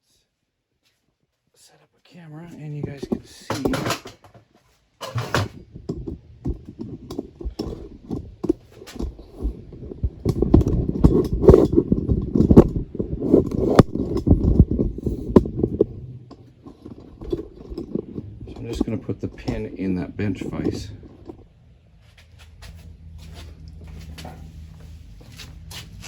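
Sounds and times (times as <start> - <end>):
rubbing and rustling: 2.6 - 26.0.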